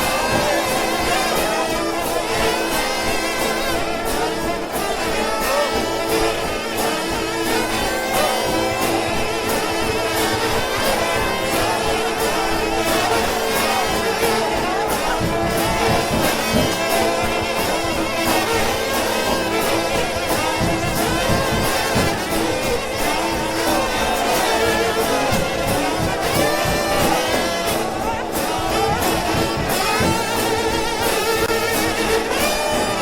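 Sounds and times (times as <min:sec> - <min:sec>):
brass chords and lead lines: 0:00.0 - 0:33.0
steady drum beats: 0:00.0 - 0:33.0.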